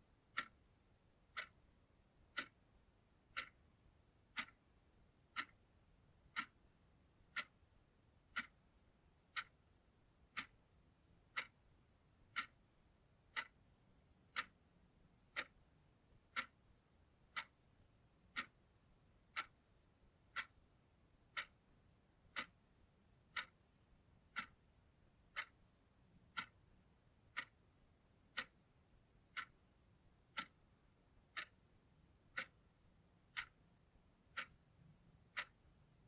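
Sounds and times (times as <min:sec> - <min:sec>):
clock ticking: 0:00.0 - 0:36.0.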